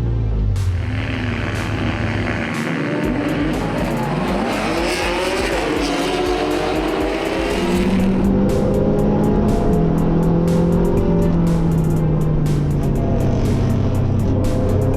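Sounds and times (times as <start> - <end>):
race car engines at full throttle: 0.0 - 14.9.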